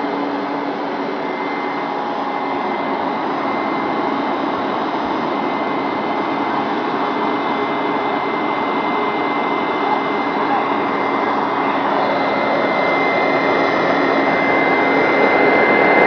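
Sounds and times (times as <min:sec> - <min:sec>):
carpet cleaner suction and motor whine: 0:00.0 - 0:16.0.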